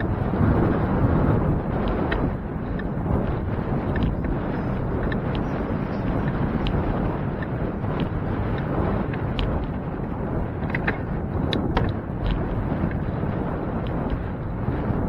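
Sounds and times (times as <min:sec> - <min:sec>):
wind buffeting microphone: 0:00.0 - 0:15.0
faint clicks and rattles: 0:01.7 - 0:14.3.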